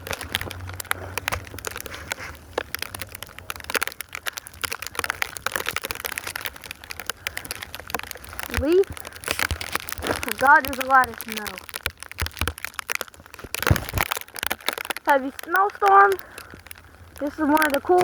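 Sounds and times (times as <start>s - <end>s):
plastic case crinkling in snow: 0.0s - 18.0s.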